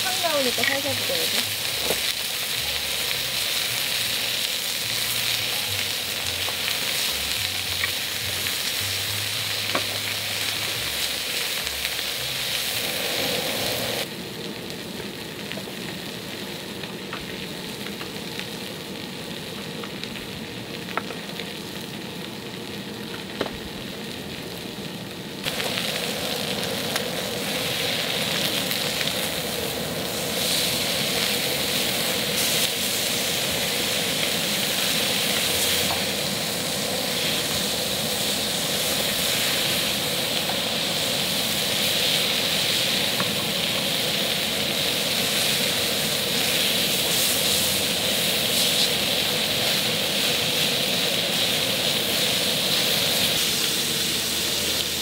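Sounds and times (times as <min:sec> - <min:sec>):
pork sizzling on griddle: 0:00.0 - 0:55.0.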